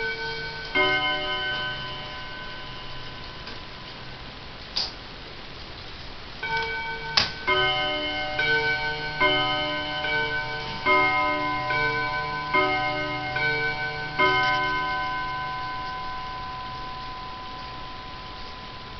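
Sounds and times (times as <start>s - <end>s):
mantel clock two-note chime: 0.0s - 4.2s, 6.4s - 18.9s.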